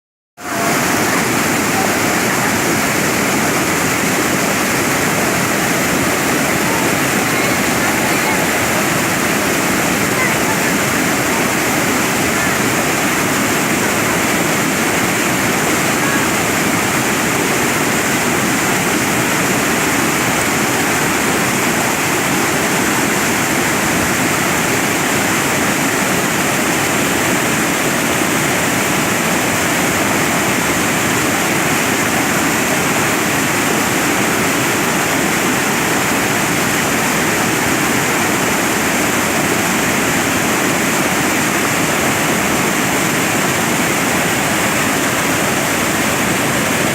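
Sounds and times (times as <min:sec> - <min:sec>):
waterfall roaring: 0:00.4 - 0:46.9.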